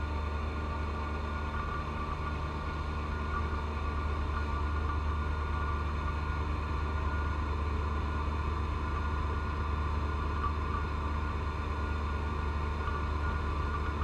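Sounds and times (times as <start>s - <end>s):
tractor diesel engine drone: 0.0s - 14.0s.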